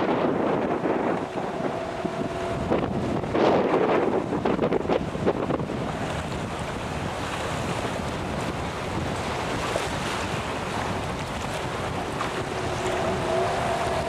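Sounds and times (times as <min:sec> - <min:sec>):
lake waves lapping: 0:00.0 - 0:14.0
wind buffeting microphone: 0:00.0 - 0:14.0.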